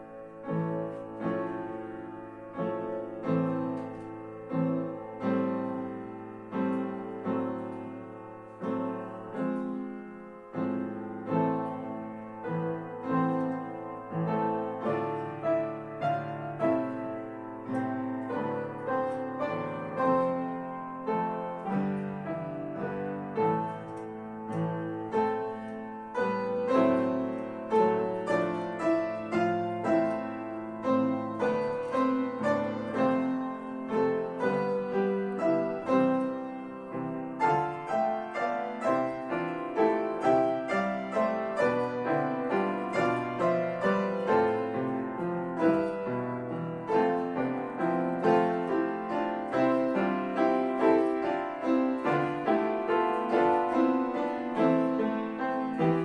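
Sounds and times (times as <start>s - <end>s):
piano playing: 0.0s - 56.0s.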